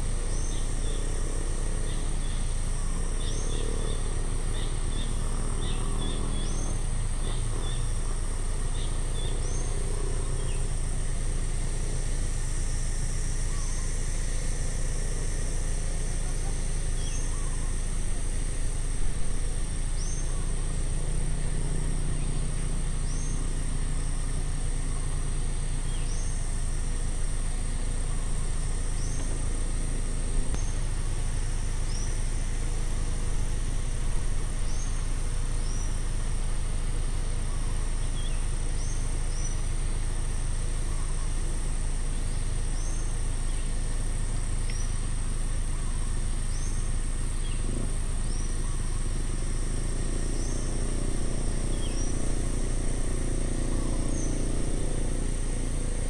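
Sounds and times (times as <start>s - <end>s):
distant road traffic rumble: 0.0s - 56.0s
insect drone: 0.0s - 56.0s.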